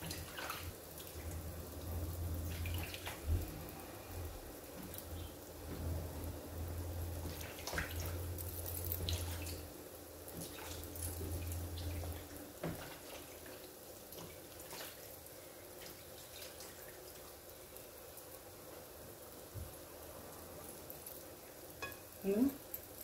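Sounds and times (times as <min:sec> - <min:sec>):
oil sizzling in deep fryer: 0:00.0 - 0:23.0.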